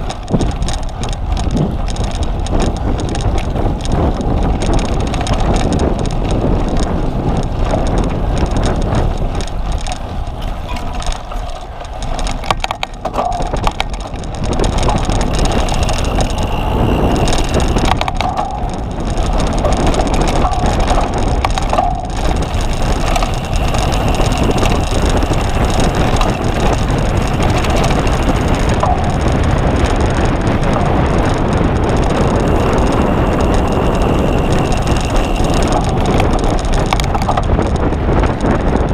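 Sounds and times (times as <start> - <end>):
bicycle rattles and clicks: 0.0 - 38.9
wind and tyre noise: 0.0 - 38.9.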